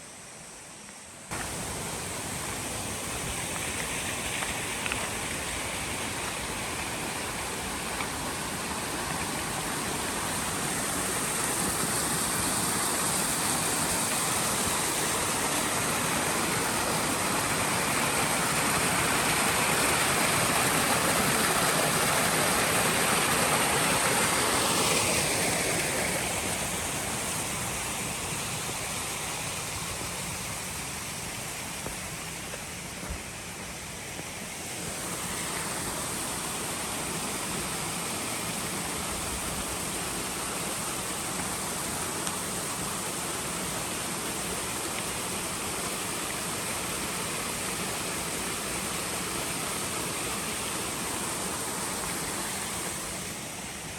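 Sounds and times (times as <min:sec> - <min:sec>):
stream rushing over rocks: 0:01.1 - 0:53.9.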